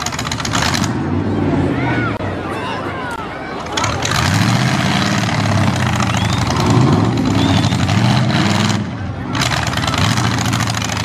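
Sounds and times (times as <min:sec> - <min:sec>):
high noise above engine: 0:00.0 - 0:11.0
truck engine running loudly: 0:00.0 - 0:11.0.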